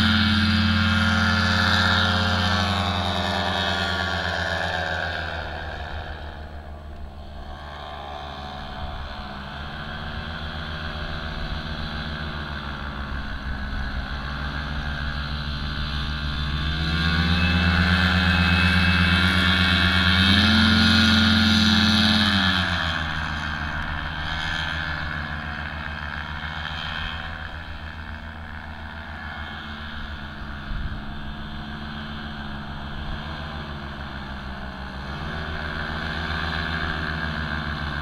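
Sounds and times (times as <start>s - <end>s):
paramotor engine and propeller: 0.0s - 38.0s.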